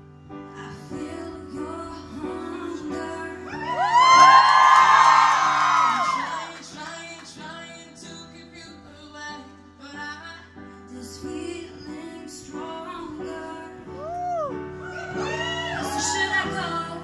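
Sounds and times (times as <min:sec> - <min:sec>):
woman singing pop: 0:00.5 - 0:04.5, 0:05.7 - 0:17.0.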